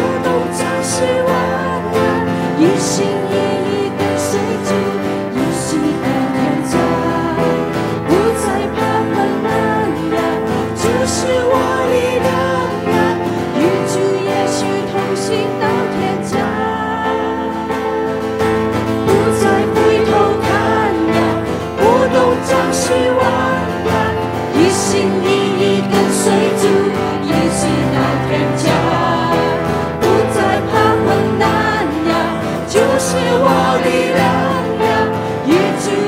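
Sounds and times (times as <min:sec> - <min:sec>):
congregation singing worship song: 0:00.0 - 0:36.0
electric guitar: 0:00.0 - 0:36.0
keyboard: 0:00.0 - 0:36.0.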